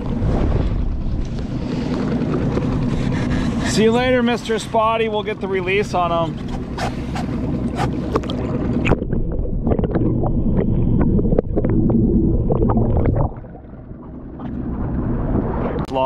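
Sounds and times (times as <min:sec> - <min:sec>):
muffled underwater rumble: 0:00.0 - 0:16.0
water splashing: 0:00.0 - 0:16.0.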